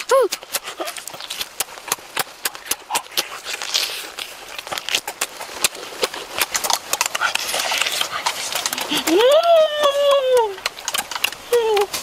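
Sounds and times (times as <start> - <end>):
person chewing with wet smacks: 0.0 - 12.0.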